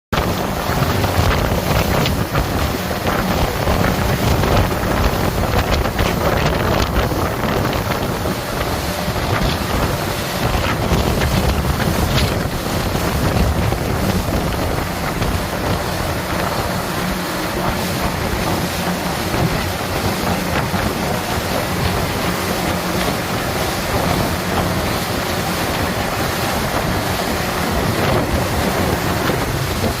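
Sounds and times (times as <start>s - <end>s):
water noise: 0.1s - 30.0s
wind blowing across microphone: 0.1s - 30.0s
steady low rumble: 0.2s - 30.0s.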